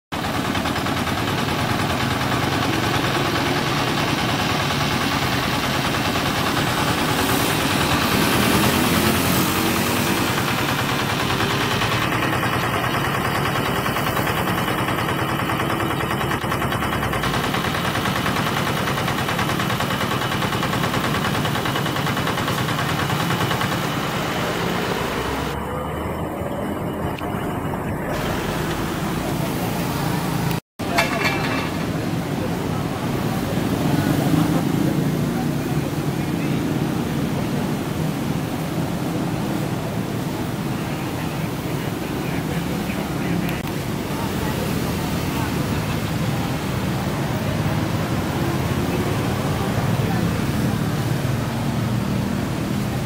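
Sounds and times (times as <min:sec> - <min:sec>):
diesel engine running: 0:00.1 - 0:53.0.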